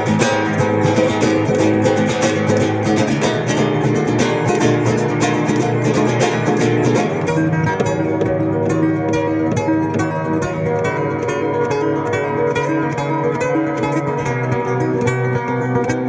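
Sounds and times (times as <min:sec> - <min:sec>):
acoustic guitar plucking: 0:00.0 - 0:16.0.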